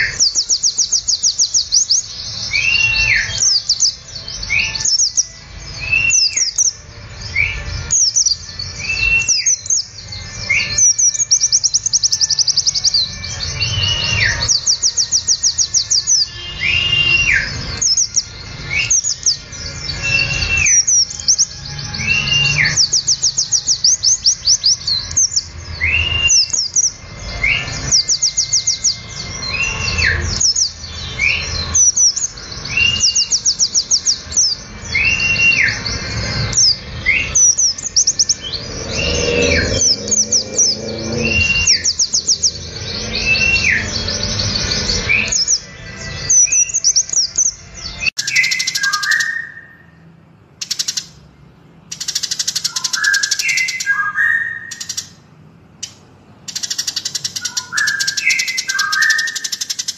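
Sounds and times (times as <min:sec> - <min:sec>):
bird whistle: 0:00.0 - 0:50.0, 0:50.6 - 0:51.2, 0:51.9 - 0:55.2, 0:55.8 - 0:59.9
songbirds trilling: 0:00.0 - 0:59.9.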